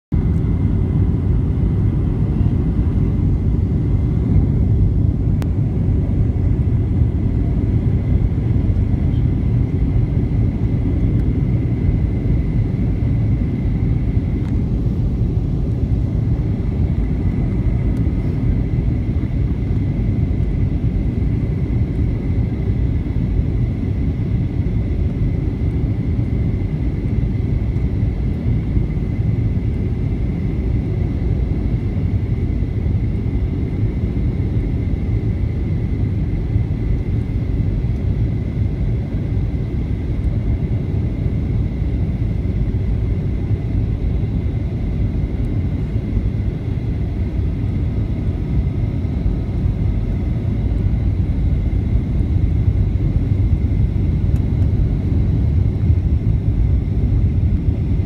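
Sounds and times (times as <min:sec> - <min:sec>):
airplane cabin rumble: 0:00.1 - 0:58.0
faint high whine: 0:00.2 - 0:58.0.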